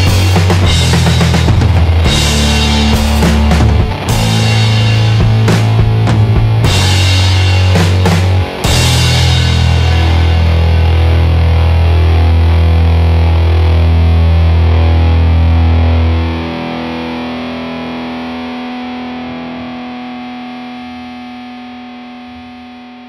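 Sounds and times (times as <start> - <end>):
distorted electric guitar chord: 0.0 - 23.0.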